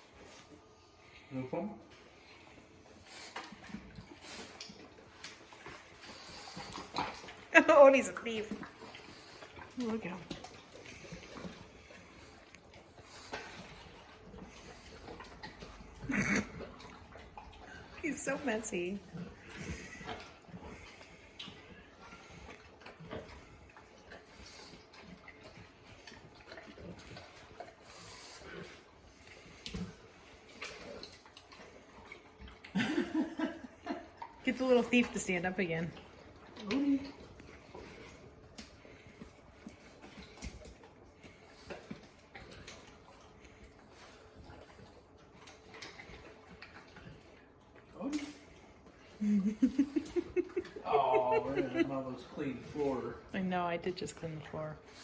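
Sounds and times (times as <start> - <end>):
dog chewing and licking: 0.0 - 55.0.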